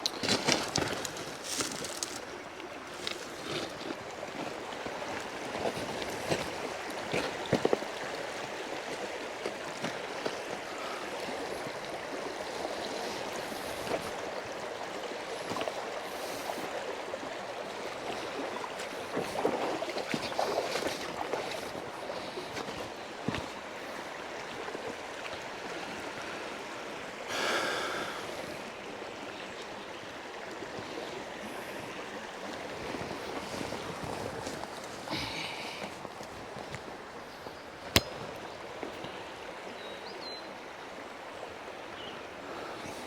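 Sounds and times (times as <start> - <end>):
river water rushing over rocks: 0.0 - 43.0.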